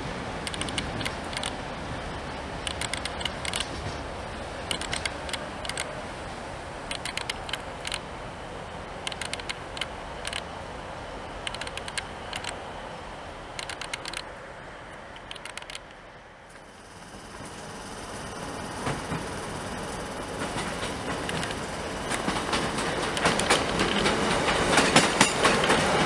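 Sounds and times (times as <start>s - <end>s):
train rolling rumble: 0.0s - 26.0s
train wheels clicking over rail joints: 0.3s - 6.0s, 6.8s - 8.1s, 8.9s - 10.5s, 11.4s - 12.6s, 13.4s - 14.3s, 15.0s - 26.0s.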